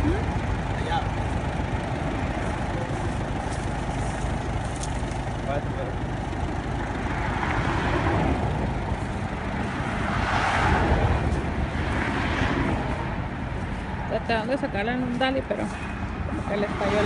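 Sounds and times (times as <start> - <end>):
freeway traffic rushing past: 0.0 - 17.0.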